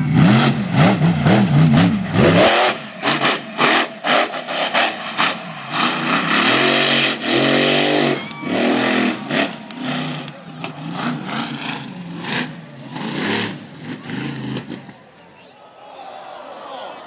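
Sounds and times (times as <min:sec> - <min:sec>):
truck engine revving hard: 0:00.0 - 0:15.1.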